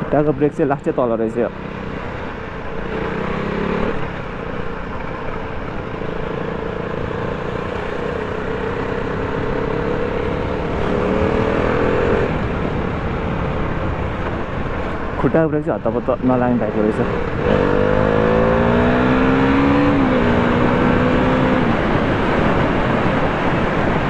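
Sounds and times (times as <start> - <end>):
wind and road noise: 0.0 - 24.0
motorcycle engine at speed: 1.2 - 15.2, 16.3 - 24.0.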